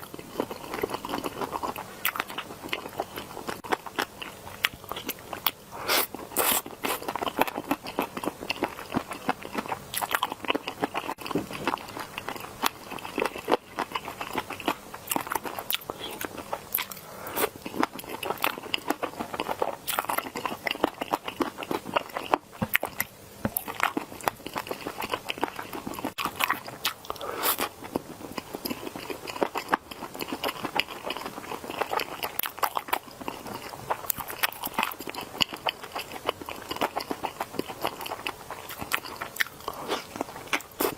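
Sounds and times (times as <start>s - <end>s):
chewing crunchy food: 0.0s - 40.9s.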